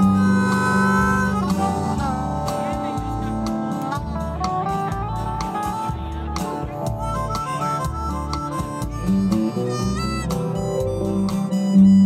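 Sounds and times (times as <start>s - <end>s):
guitar accompaniment: 0.0s - 12.0s
lead melody with bending notes: 0.0s - 12.0s.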